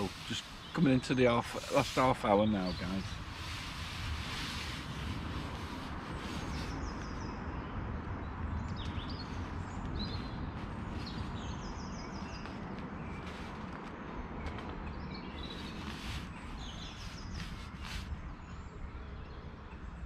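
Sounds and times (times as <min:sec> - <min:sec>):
steady low rumble: 0:00.0 - 0:18.6
birds chirping and trilling: 0:00.0 - 0:19.8.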